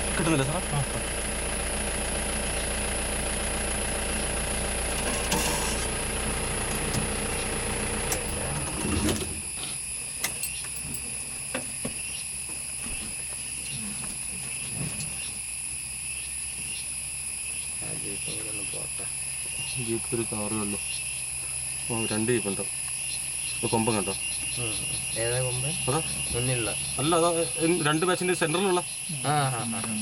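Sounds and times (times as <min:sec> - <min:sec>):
vehicle engine idling: 0:00.0 - 0:30.0
high insect hiss: 0:04.0 - 0:30.0.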